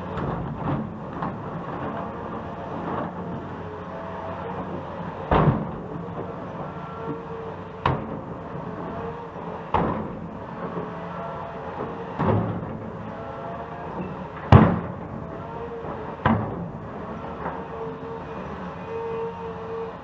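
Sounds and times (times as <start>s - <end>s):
construction machinery running: 0.0s - 20.0s.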